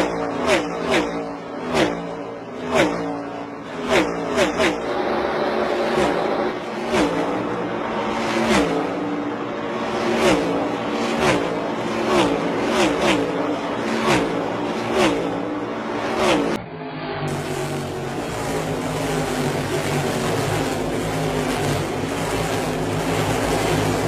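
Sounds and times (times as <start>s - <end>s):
steady engine noise of pack: 0.0s - 16.6s, 17.3s - 24.0s
dull steady engine noise: 0.0s - 24.0s
race cars passing by: 0.0s - 24.0s.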